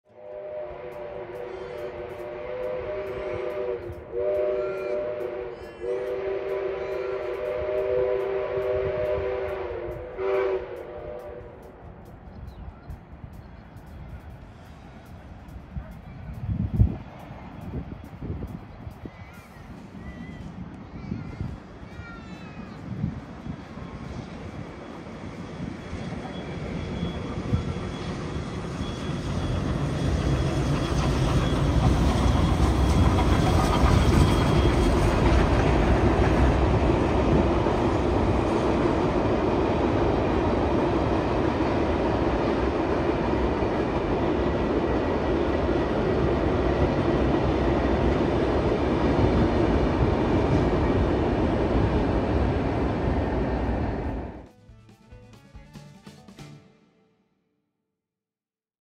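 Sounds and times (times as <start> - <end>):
train rumbling over bridge: 0.1 - 56.8
diesel locomotives passing: 0.1 - 56.9.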